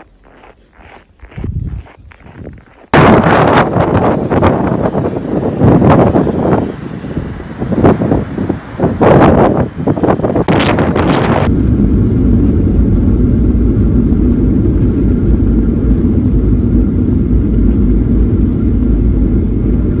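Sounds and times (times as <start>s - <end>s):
airliner cabin drone: 0.0s - 20.0s
gusty wind buffeting microphone: 0.0s - 20.0s.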